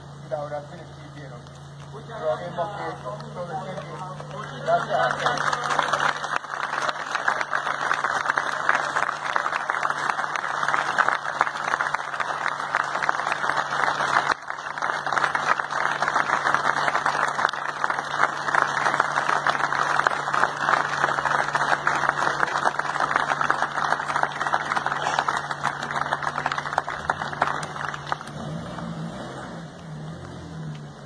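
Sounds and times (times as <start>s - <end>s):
crowd applauding: 2.0s - 29.6s.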